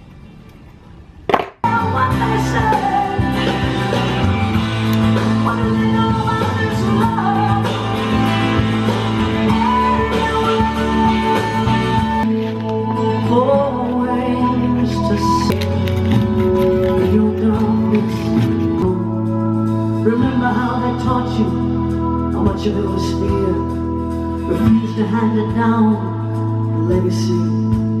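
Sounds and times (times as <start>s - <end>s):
rock song with vocals: 1.6s - 28.0s.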